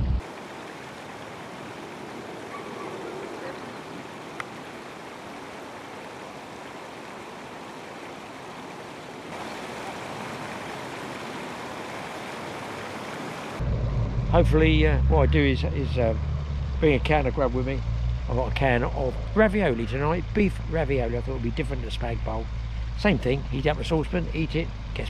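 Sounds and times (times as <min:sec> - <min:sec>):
outdoor background hiss: 0:00.0 - 0:14.2, 0:14.8 - 0:25.0.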